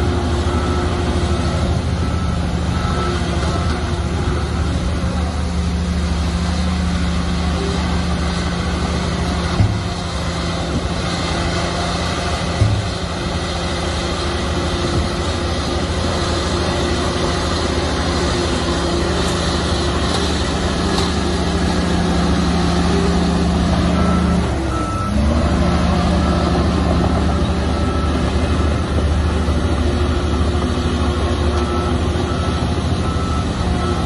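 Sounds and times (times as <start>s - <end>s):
diesel machinery running under load: 0.0s - 34.0s
reversing alarm beeping: 0.0s - 34.0s.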